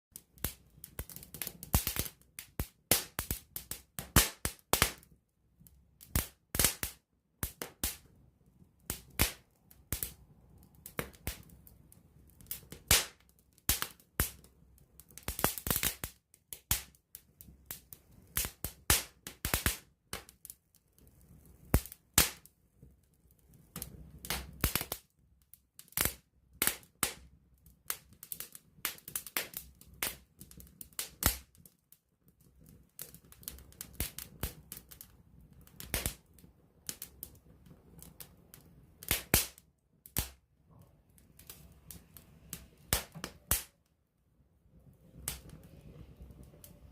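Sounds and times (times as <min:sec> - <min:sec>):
campfire crackling and popping: 0:00.1 - 0:43.9, 0:45.0 - 0:46.9.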